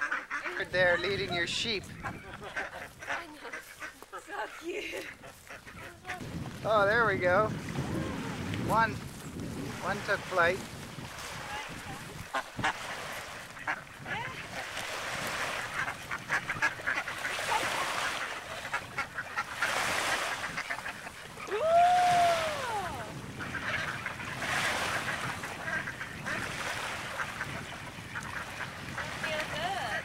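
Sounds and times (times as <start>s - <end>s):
ducks calling: 0.0s - 7.2s, 11.3s - 21.5s, 22.6s - 30.0s
small waves washing onto shore: 5.1s - 30.0s.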